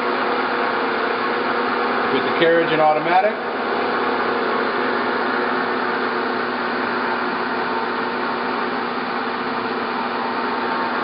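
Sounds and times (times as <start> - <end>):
lathe spindle whirring: 0.0 - 11.0.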